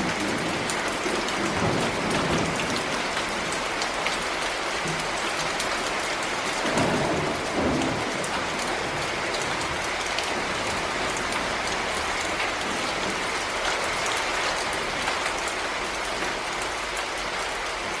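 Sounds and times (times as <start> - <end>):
heavy rain falling: 0.0 - 18.0
raindrops ticking: 0.0 - 18.0.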